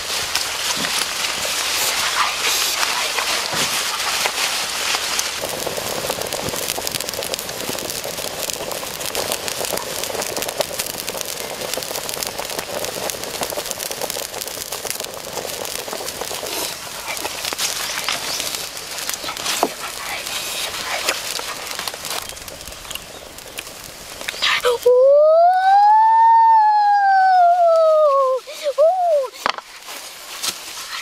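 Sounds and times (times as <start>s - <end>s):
pot boiling and bubbling: 0.0s - 31.0s.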